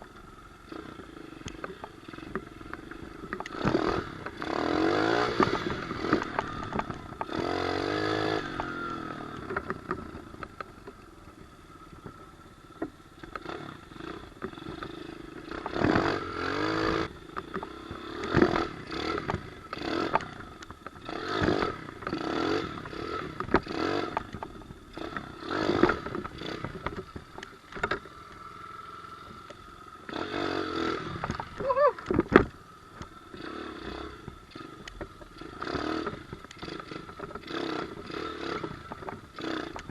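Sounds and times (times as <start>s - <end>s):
motorbike engine revving: 0.6s - 10.8s, 12.8s - 39.9s.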